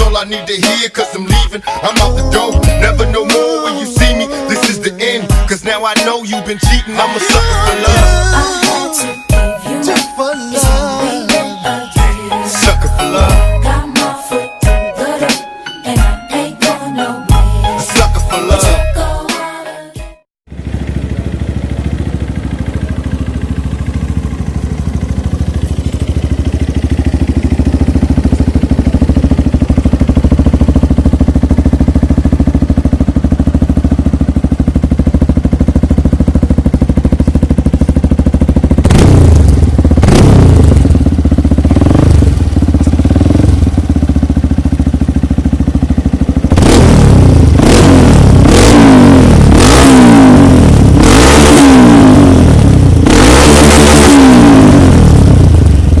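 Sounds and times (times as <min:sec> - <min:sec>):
motorcycle engine idling and revving: 0:00.0 - 0:14.8, 0:20.5 - 0:56.0.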